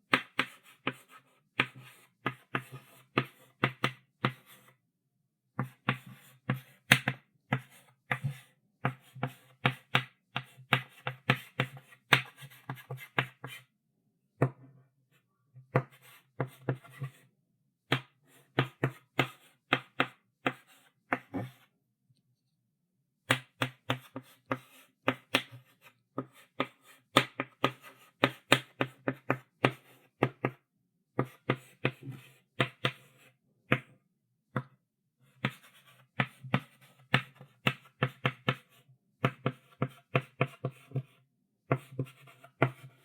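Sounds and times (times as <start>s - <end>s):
chalk tapping and scraping on blackboard: 0.1s - 4.8s, 5.6s - 13.7s, 15.6s - 17.3s, 17.9s - 21.7s, 23.3s - 30.6s, 31.2s - 43.0s.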